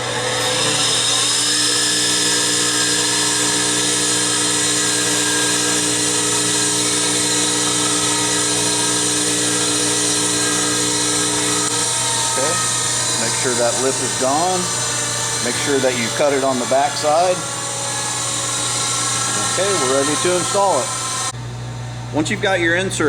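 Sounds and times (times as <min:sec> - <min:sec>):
motor-driven polishing wheel whine: 0:00.0 - 0:21.4.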